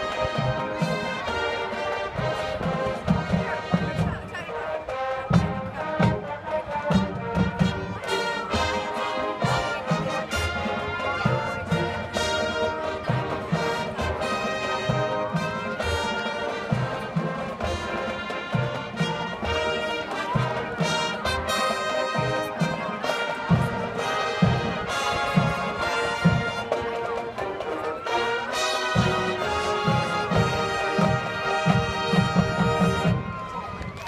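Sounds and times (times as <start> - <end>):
brass section playing: 0.0 - 34.0
steady drum beat: 0.0 - 34.0.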